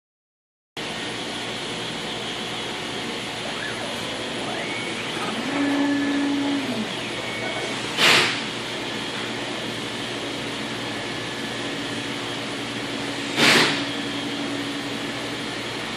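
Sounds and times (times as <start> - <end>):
cnc router running: 0.8 - 15.9
machine whine: 0.8 - 15.9.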